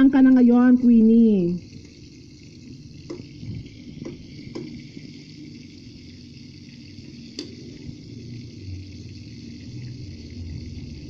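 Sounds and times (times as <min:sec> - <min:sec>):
hot dogs sizzling in oil: 0:00.0 - 0:11.0.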